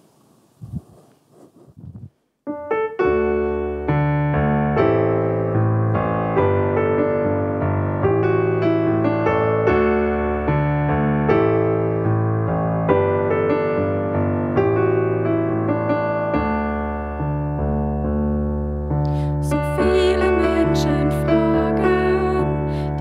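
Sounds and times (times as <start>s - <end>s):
piano chords: 2.5s - 23.0s.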